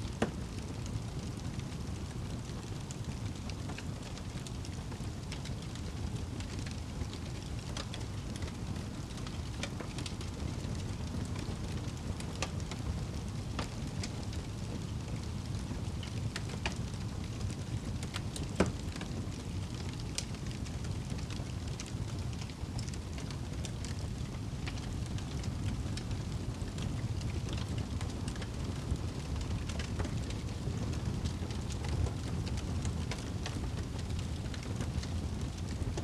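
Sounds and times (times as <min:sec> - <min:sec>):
low fire rumble: 0:00.0 - 0:36.0
wood fire crackling: 0:00.0 - 0:36.0.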